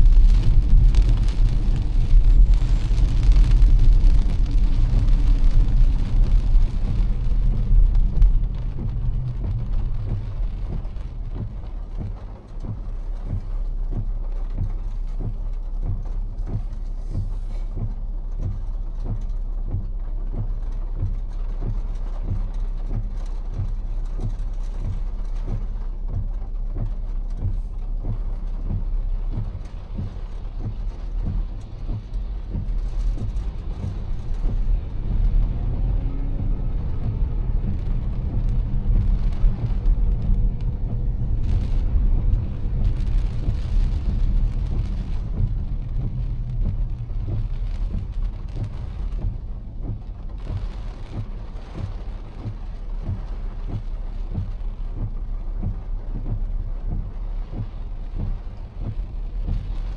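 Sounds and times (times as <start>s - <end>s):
car road and engine rumble: 0.0s - 59.9s
soft low pulses: 0.0s - 59.9s.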